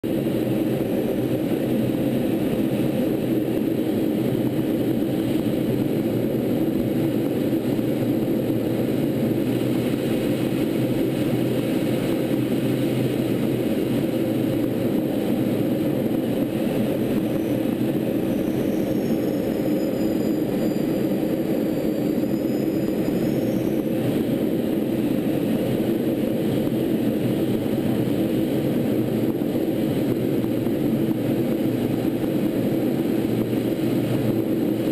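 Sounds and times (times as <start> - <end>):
jet aircraft cabin drone: 0.0 - 34.9.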